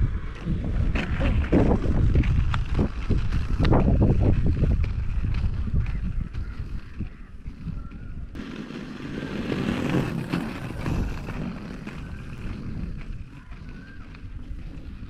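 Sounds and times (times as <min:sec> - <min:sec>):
wind buffeting microphone: 0:00.0 - 0:08.4, 0:09.0 - 0:15.0
rumble of movement on asphalt: 0:00.0 - 0:15.0.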